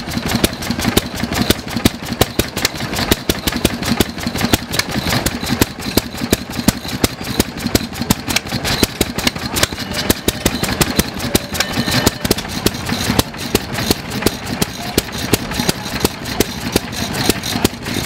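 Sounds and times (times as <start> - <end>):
stationary engines popping and knocking: 0.0 - 18.0
steady mechanical clatter: 0.0 - 18.0.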